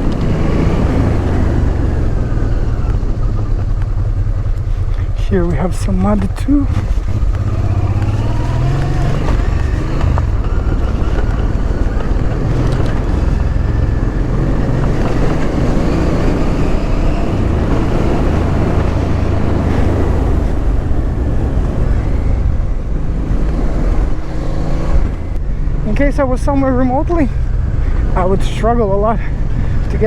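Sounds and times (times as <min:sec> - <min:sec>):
motorcycle engine running: 0:00.0 - 0:30.0
wind noise on microphone: 0:00.0 - 0:30.0.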